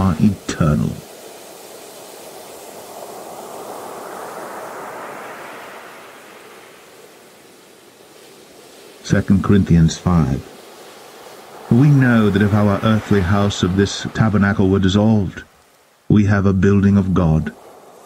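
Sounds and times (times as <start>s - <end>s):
waves breaking: 0.0s - 18.0s.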